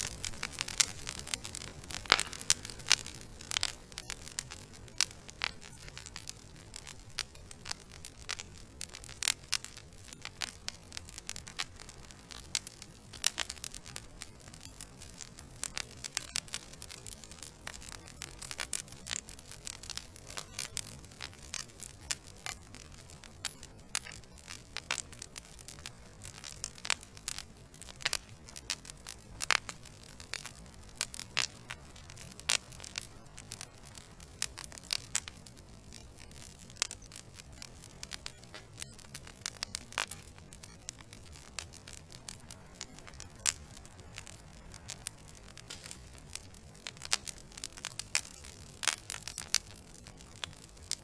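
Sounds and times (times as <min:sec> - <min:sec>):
low rush of flame: 0:00.0 - 0:51.0
wood fire crackling: 0:00.0 - 0:51.0.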